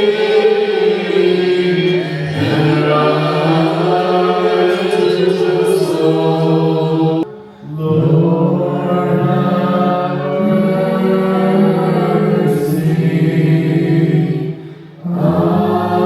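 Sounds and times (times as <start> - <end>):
voices chanting a hymn: 0.0 - 16.0.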